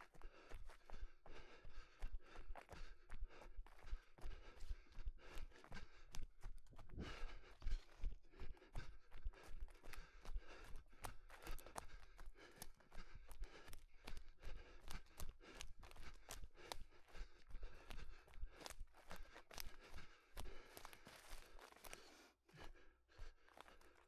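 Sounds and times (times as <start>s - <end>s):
running footsteps on forest floor: 0.0s - 24.0s
hard breathing: 0.1s - 24.0s.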